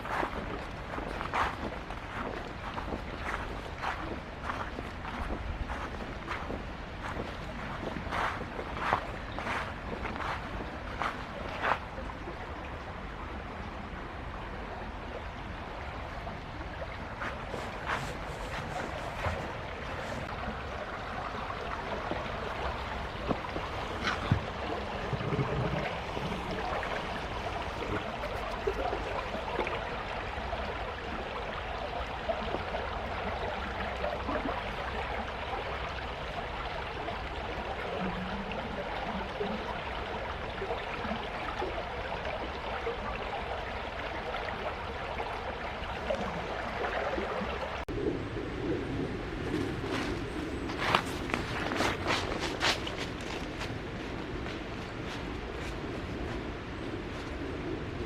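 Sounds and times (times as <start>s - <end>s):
stream flowing over stones: 0.0s - 48.0s, 49.2s - 58.0s.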